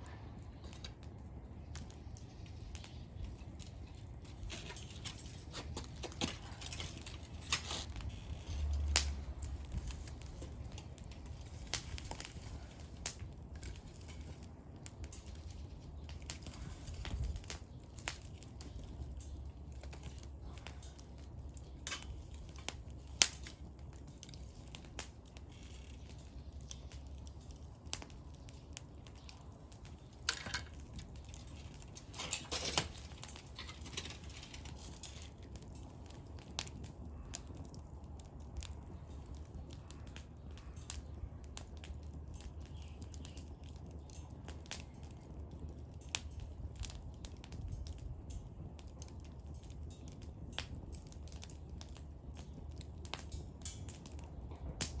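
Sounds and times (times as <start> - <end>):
firewood crackling and popping: 0.0 - 55.0
low steady fire rumble: 0.0 - 55.0.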